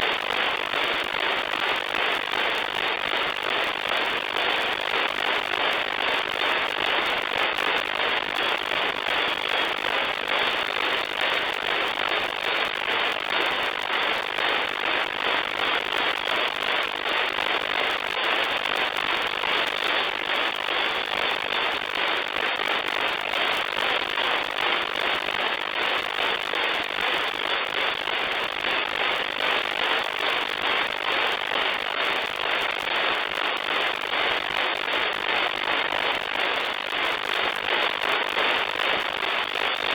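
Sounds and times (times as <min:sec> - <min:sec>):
crackly radio static hiss: 0:00.0 - 0:39.9.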